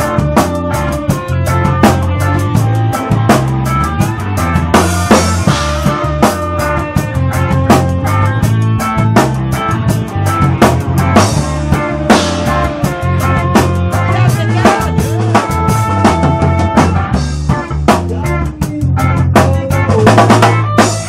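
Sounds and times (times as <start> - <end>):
drum kit beat: 0.0 - 21.0
electric guitars: 0.0 - 21.0.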